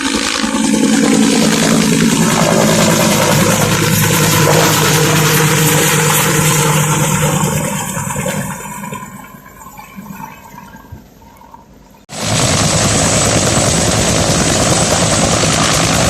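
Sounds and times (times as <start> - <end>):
helicopter rotors and engine: 0.0 - 9.3, 12.1 - 16.0
rotor wash on water: 0.0 - 11.0, 12.1 - 16.0.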